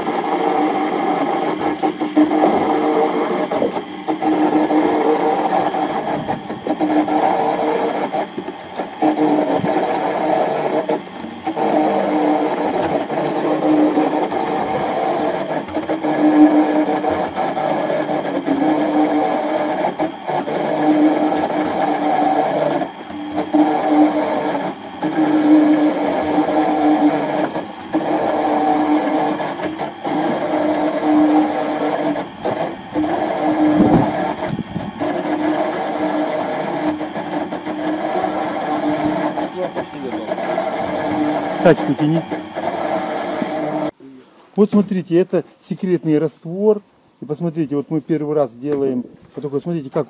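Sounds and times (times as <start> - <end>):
concrete mixer motor humming: 0.0 - 44.0.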